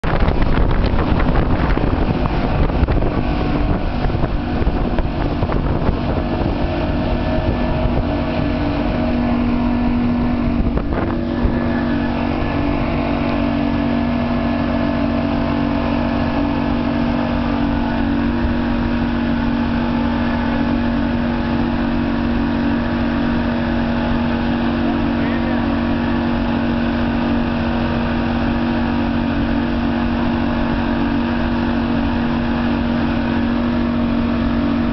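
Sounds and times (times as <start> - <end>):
outboard motor running: 0.0 - 34.9
rush of wind and water: 0.0 - 34.9.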